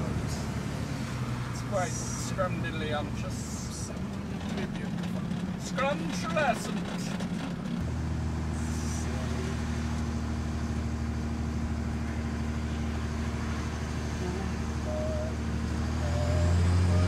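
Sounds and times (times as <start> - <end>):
vehicle engine and road drone: 0.0 - 17.0.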